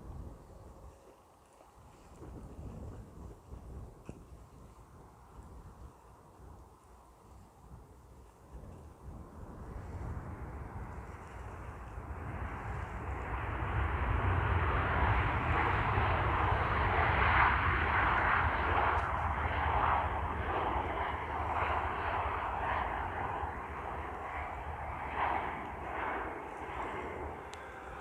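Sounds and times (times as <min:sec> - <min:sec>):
airliner engines passing: 0:00.1 - 0:28.0.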